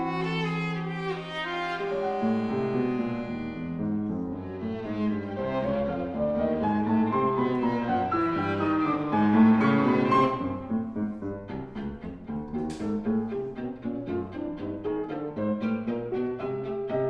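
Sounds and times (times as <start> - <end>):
piano playing: 0.0 - 17.0
viola playing: 0.0 - 17.0.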